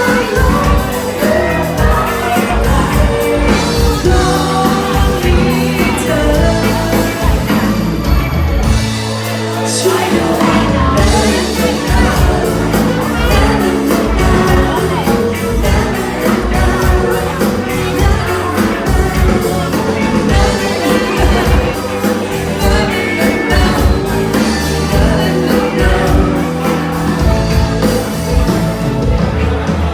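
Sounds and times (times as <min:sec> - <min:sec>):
band playing: 0:00.0 - 0:29.9
person singing pop song: 0:00.0 - 0:29.9
steady drum beat: 0:00.0 - 0:29.9.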